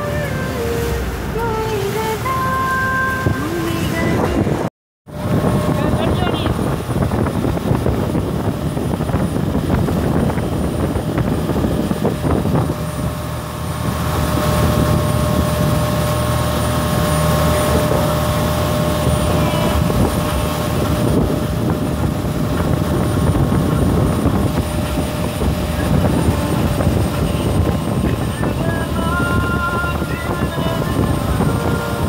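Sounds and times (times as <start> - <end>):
boat engine running: 0.0 - 32.0
rush of boat wake: 0.0 - 32.0
wind on microphone: 0.0 - 32.0.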